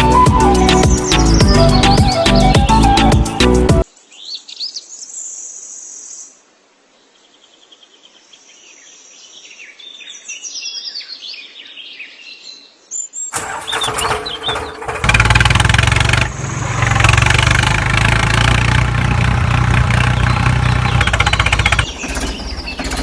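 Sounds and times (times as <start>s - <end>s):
birds chirping: 0.0s - 6.3s, 7.3s - 23.0s.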